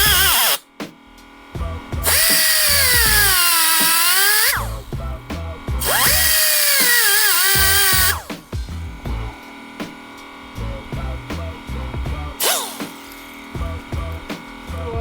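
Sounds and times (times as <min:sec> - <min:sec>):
power tool whine cutting metal: 0:00.0 - 0:00.6, 0:02.0 - 0:05.0, 0:05.8 - 0:15.0
music with steady beat: 0:00.0 - 0:15.0.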